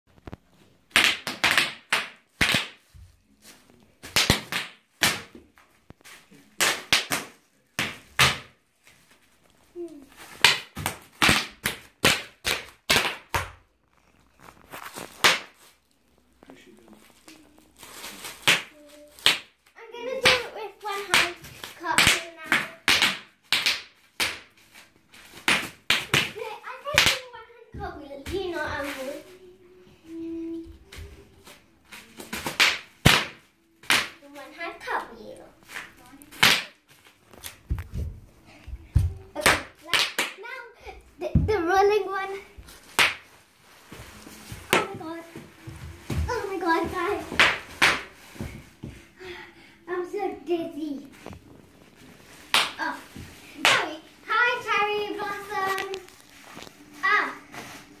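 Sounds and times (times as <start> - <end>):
bubble wrap popping underfoot: 0.1 - 29.4, 35.4 - 40.6, 42.4 - 49.2, 50.8 - 58.0.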